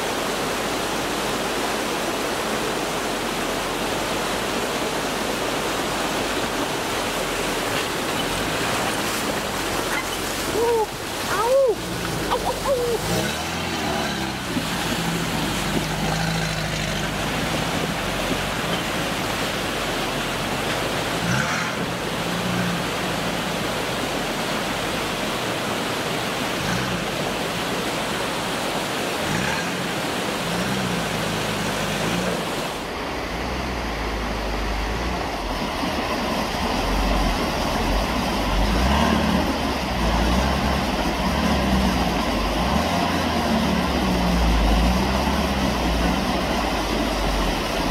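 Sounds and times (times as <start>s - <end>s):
creek water rushing: 0.0s - 47.9s
deep heavy engine rumble: 5.2s - 47.9s
truck engines under load: 5.8s - 47.9s.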